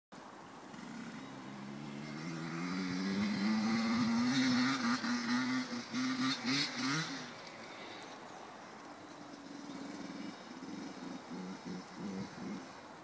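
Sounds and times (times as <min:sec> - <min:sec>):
motocross bike engine: 0:00.7 - 0:12.8.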